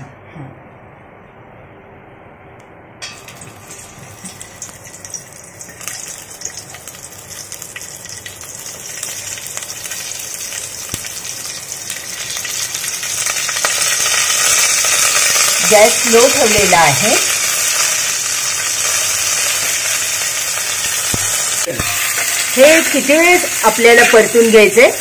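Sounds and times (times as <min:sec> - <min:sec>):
food sizzling in hot oil: 0:03.0 - 0:25.0.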